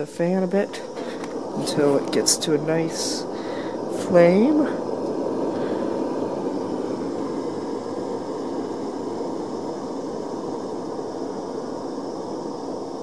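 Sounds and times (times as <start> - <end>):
gas burner flame rushing: 0.0 - 13.0.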